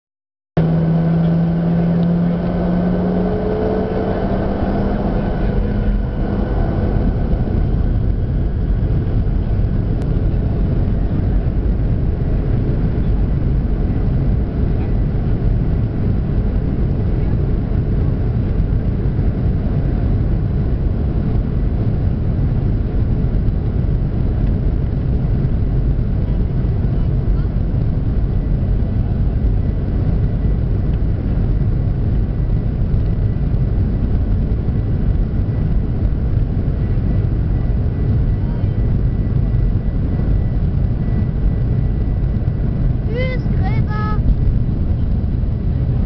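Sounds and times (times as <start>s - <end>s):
jet engines rumbling: 0.6s - 46.0s.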